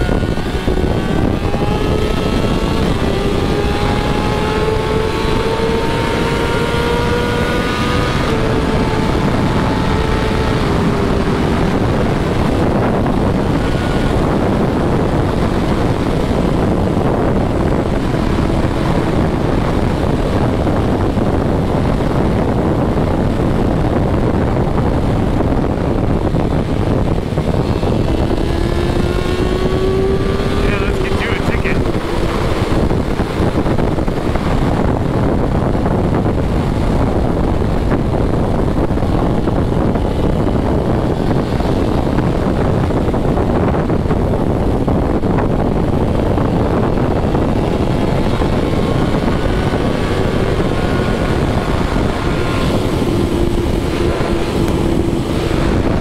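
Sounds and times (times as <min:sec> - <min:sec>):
sport bike engine pulling hard: 0:00.0 - 0:56.0
wind rushing on microphone: 0:00.0 - 0:56.0.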